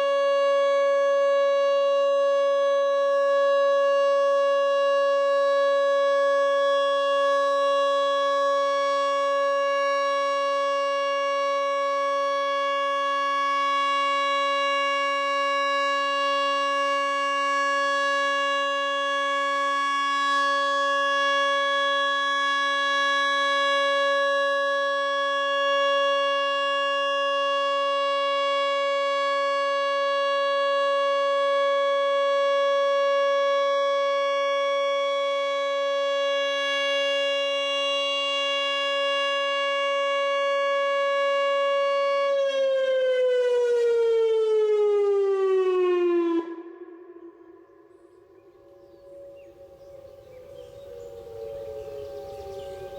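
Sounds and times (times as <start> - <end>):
warning siren steady tone: 0.0 - 52.9.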